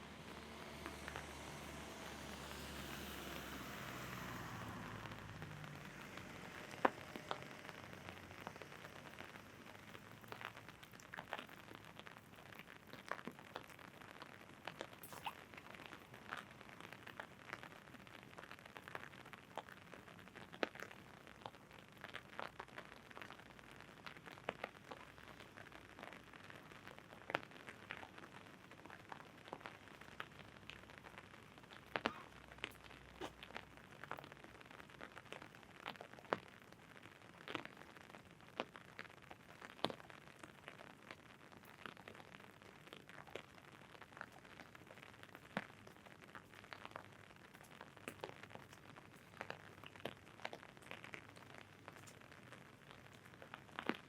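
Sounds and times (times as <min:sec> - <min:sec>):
raindrops tapping on an umbrella: 0:00.0 - 0:54.0
steady soft hiss of rain: 0:00.0 - 0:54.0.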